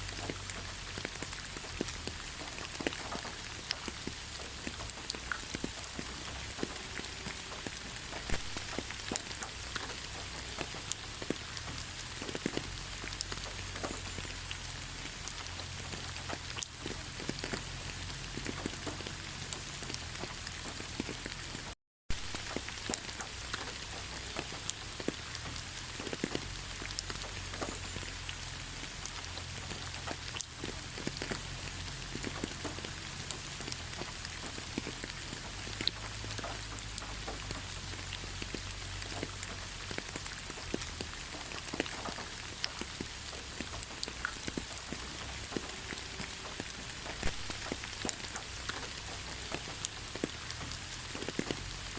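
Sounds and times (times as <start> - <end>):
gentle rain falling: 0.0 - 51.9
raindrops ticking: 0.0 - 51.9.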